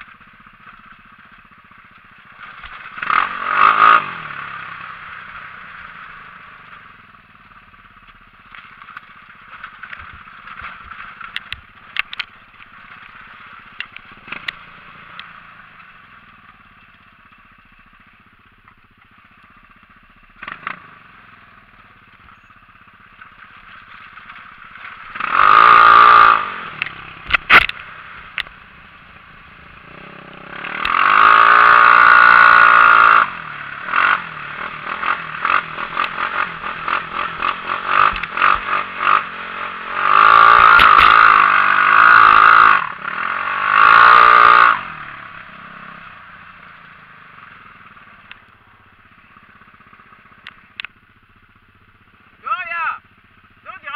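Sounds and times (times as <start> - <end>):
buggy engine revving: 0.0 - 53.9.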